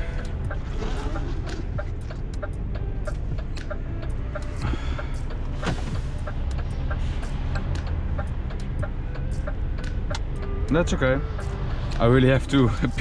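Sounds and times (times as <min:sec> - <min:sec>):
sharp ticking clicks: 0:00.0 - 0:05.5, 0:06.2 - 0:12.6
truck engine hum from cab: 0:00.0 - 0:13.0.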